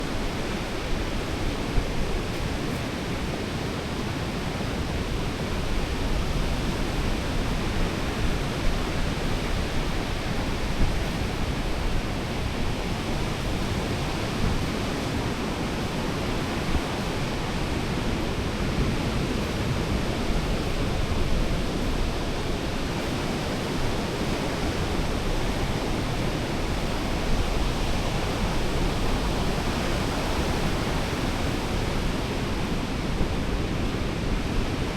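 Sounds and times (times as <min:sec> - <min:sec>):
surf on a beach: 0:00.0 - 0:34.9
wind: 0:00.0 - 0:34.9.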